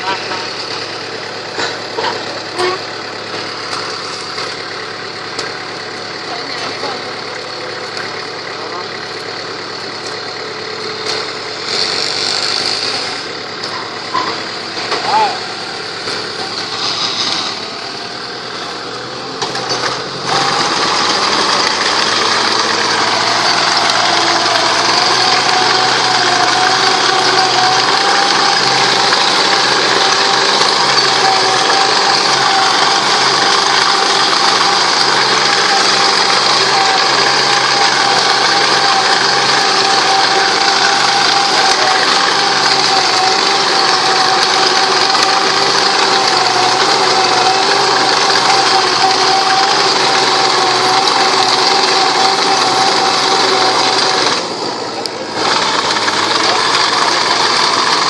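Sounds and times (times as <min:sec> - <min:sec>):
held whine: 0:00.0 - 0:58.0
tractor engine under load: 0:00.0 - 0:58.0.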